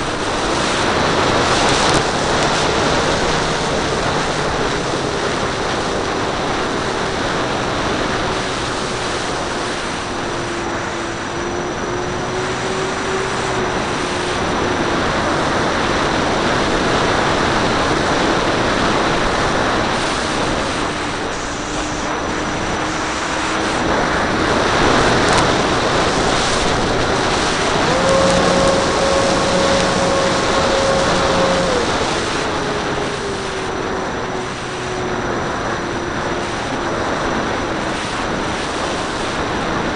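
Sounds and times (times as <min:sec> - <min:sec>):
motor and propeller whine: 0:00.0 - 0:39.9
wind rush: 0:00.0 - 0:39.9.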